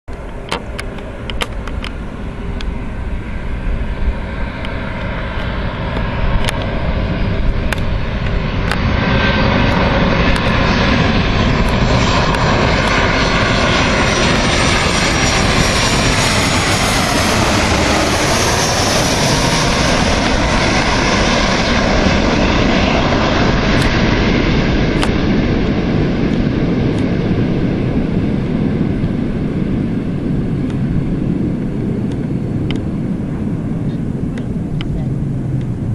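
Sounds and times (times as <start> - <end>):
jet engine whine: 0.1 - 35.9
jet engines rumbling: 0.1 - 35.9.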